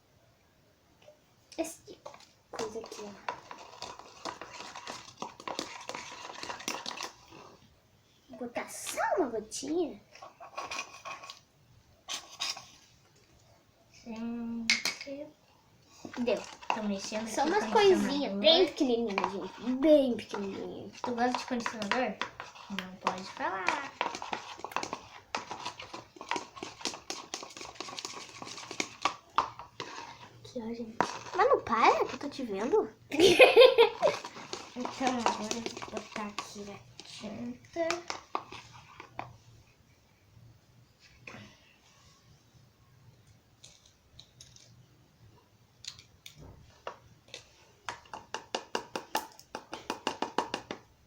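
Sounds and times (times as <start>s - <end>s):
slime being stirred: 1.5s - 13.5s, 15.8s - 39.9s, 43.2s - 51.0s.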